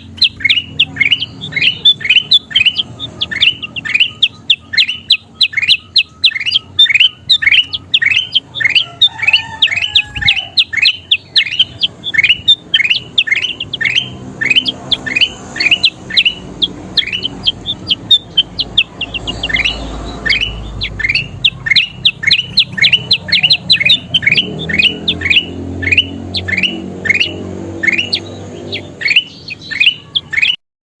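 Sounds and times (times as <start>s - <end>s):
bulbul chirping: 0.0s - 30.6s.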